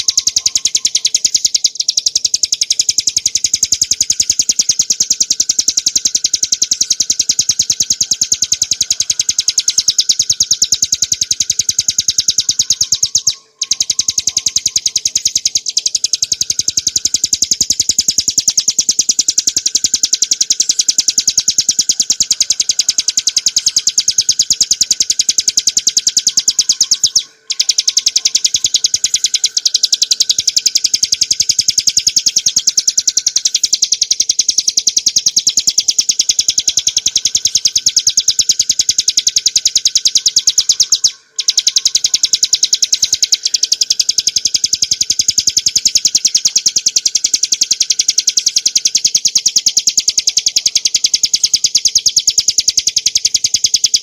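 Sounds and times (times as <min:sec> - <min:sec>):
bird singing high-pitched trill: 0:00.0 - 0:54.0.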